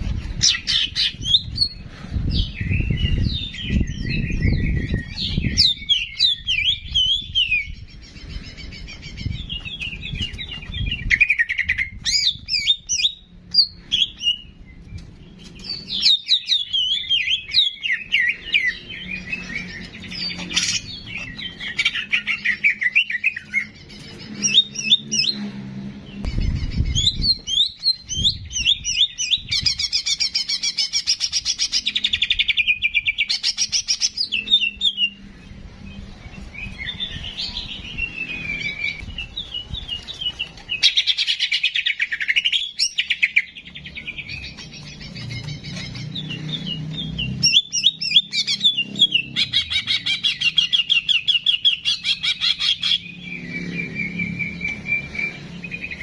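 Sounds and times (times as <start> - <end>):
songbird trilling and chirping: 0.0 - 56.0.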